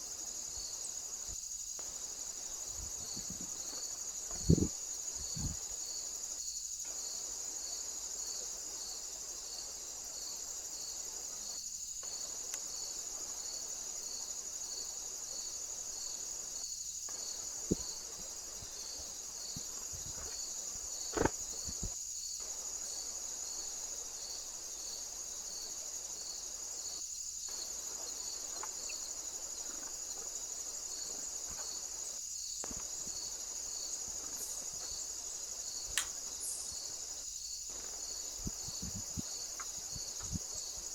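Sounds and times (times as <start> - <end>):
cricket chirping: 0.0 - 40.9
insects trilling: 0.0 - 40.9.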